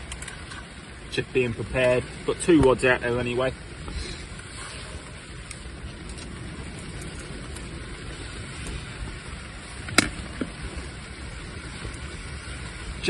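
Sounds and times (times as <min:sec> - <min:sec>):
rain on fabric shelter: 0:00.0 - 0:13.0
wind: 0:00.0 - 0:13.0.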